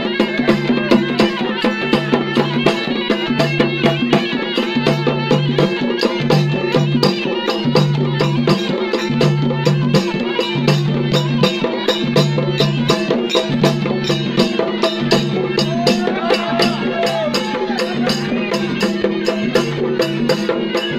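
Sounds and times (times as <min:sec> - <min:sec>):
fast percussion beat: 0:00.0 - 0:20.9.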